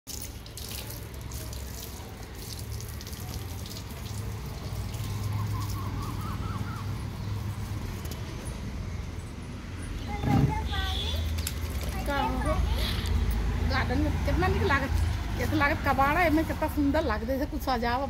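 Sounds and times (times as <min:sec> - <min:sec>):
water splattering on concrete: 0:00.0 - 0:08.2, 0:10.7 - 0:18.0.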